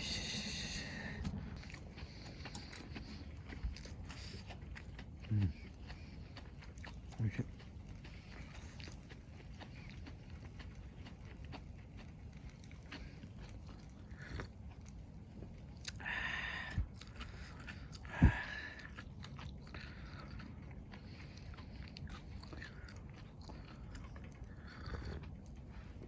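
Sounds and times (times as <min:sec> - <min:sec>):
chewing and biting: 0:00.1 - 0:26.0.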